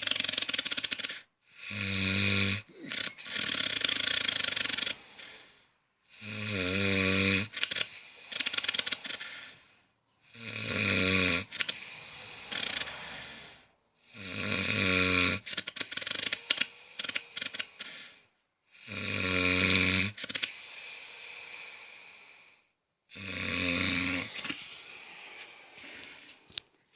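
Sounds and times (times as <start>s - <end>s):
person snoring heavily: 0.0s - 26.4s.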